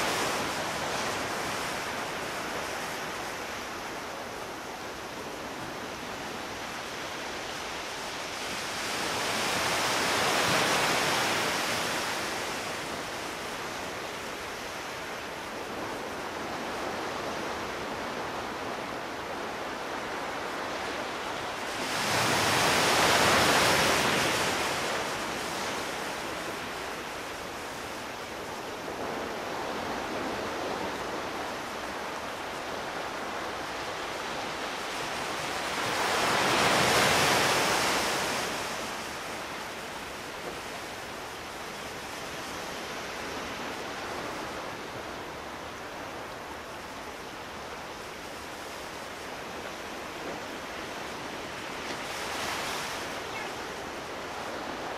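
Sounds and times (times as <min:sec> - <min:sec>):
ocean surf washing: 0:00.0 - 0:54.9
waves breaking: 0:00.0 - 0:54.9.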